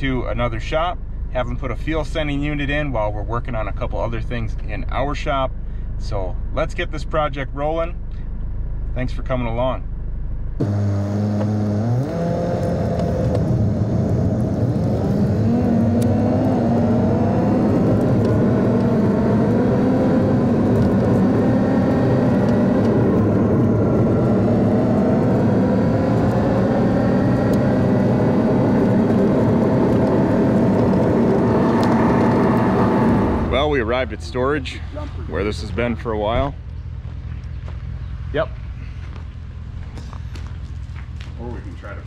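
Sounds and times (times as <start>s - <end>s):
car engine: 0.0s - 42.0s
tyres on gravel road: 0.0s - 42.0s.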